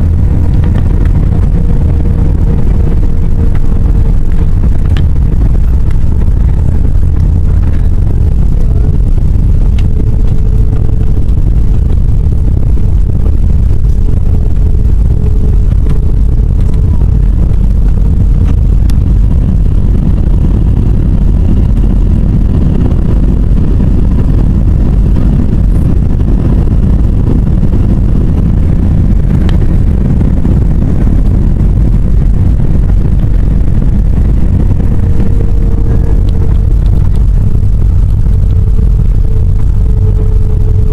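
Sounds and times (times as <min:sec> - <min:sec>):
airplane cabin engine rumble: 0:00.0 - 0:40.9
steady hum: 0:00.0 - 0:40.9.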